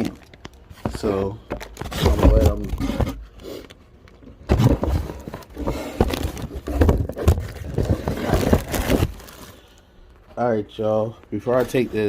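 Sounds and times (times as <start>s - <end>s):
packaging rustling and scraping: 0.0s - 10.2s, 11.4s - 12.0s.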